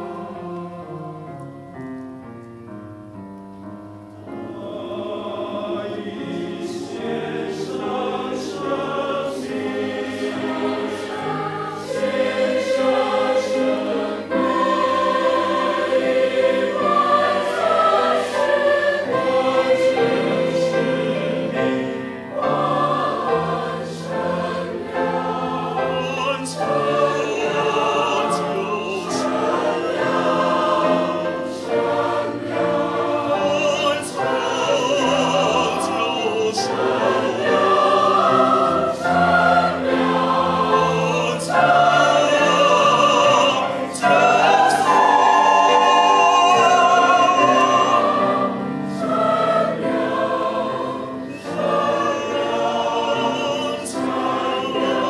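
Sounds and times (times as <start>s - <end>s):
mixed choir singing: 0.0s - 1.0s, 4.3s - 55.0s.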